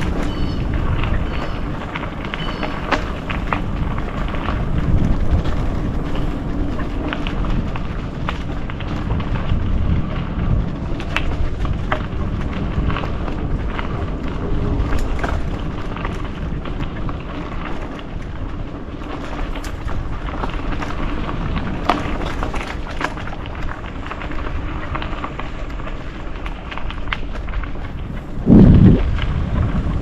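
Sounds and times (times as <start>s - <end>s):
bike clicks and rattles: 0.0s - 28.4s
bike tyre noise: 0.0s - 30.0s
wind rumble on microphone: 0.0s - 30.0s.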